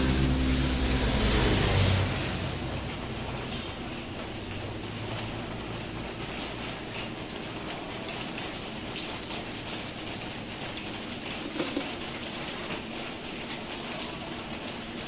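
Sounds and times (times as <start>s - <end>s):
falling water patter and hiss: 0.0s - 15.0s.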